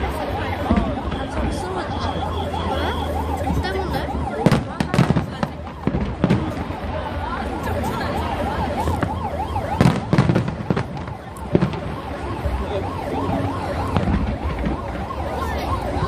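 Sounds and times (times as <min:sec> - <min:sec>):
ambulance siren wailing: 0:00.0 - 0:16.0
fireworks banging: 0:00.0 - 0:16.0.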